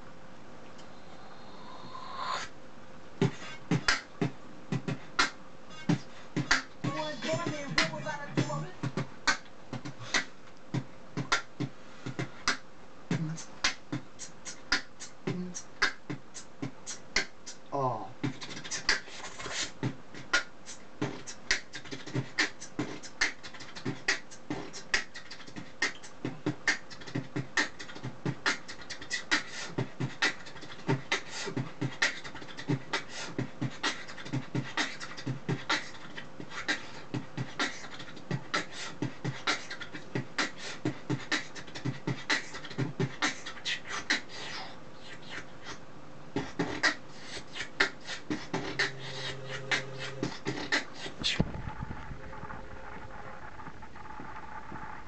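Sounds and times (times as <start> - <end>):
beatboxing: 0.8 - 2.6, 3.2 - 55.0.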